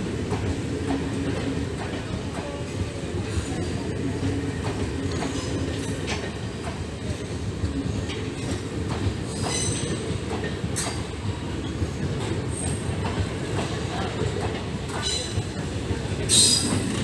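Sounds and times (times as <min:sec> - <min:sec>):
train coaches rumbling past: 0:00.0 - 0:17.0.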